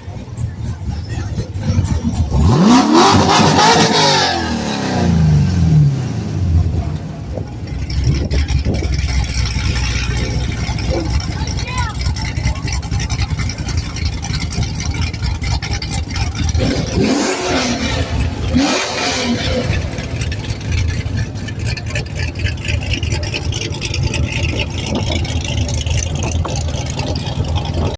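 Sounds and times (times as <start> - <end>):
car engine revving: 0.0 - 27.9
car engines idling: 0.0 - 27.9.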